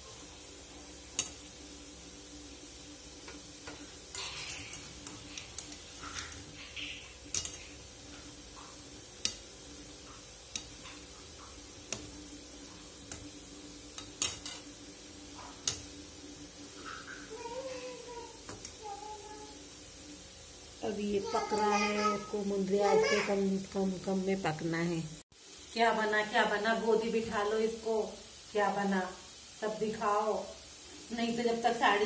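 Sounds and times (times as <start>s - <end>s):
oil sizzling: 0.0s - 32.0s.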